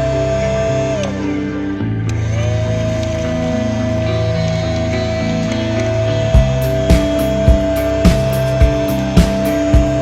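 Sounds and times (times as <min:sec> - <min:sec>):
background music: 0:00.0 - 0:10.0
vacuum cleaner motor whine: 0:00.0 - 0:10.0.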